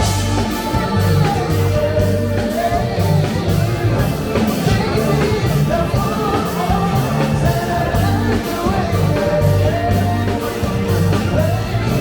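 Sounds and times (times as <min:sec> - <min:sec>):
funk band playing: 0:00.0 - 0:12.0
held bass notes: 0:00.0 - 0:12.0
person singing: 0:00.0 - 0:12.0.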